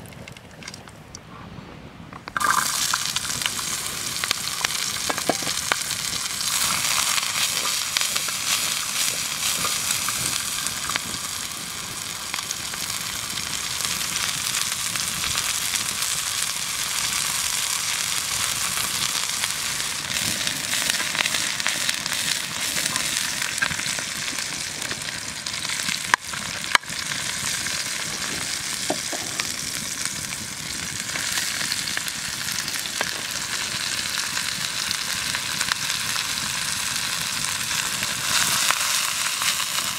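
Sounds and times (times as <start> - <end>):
garlic sizzling in a skillet: 2.4 - 39.9.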